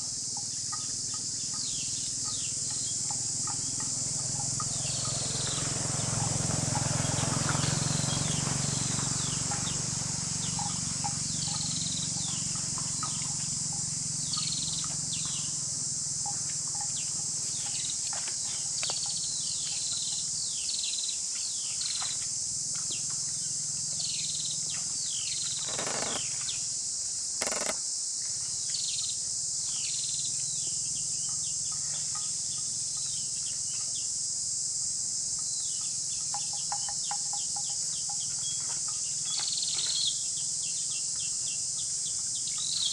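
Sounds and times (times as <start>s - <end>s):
high-pitched insect drone: 0.0s - 21.2s, 21.8s - 26.6s, 27.4s - 28.2s, 29.3s - 42.9s.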